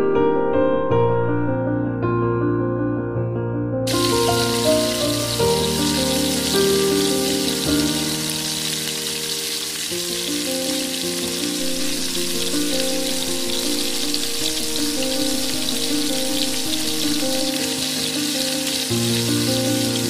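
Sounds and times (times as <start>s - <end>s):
background music with held notes: 0.0s - 20.0s
food sizzling in hot oil: 3.9s - 20.0s.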